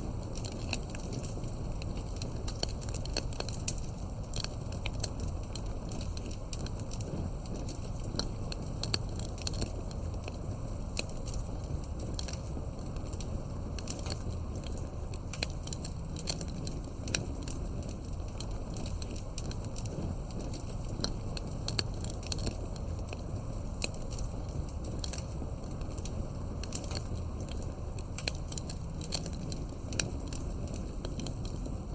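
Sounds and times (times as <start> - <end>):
campfire wood crackling: 0.0 - 31.9
low rumble of fire: 0.0 - 31.9.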